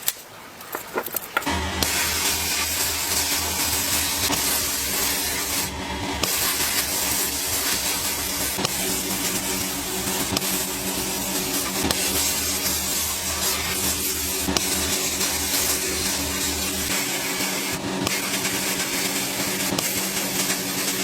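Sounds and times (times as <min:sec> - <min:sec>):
power tool motor running: 0:01.4 - 0:21.0.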